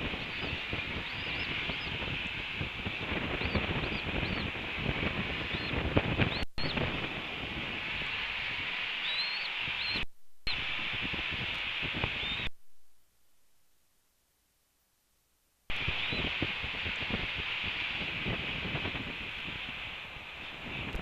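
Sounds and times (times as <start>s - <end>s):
gusty wind rumbling: 0.0s - 12.5s, 15.7s - 21.0s
rain hissing: 0.0s - 12.9s, 15.7s - 21.0s.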